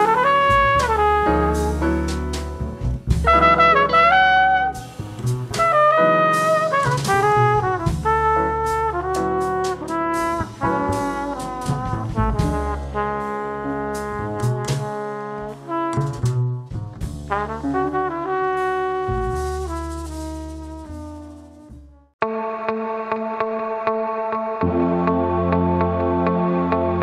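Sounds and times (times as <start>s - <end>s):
instrumental brass music: 0.0s - 23.2s.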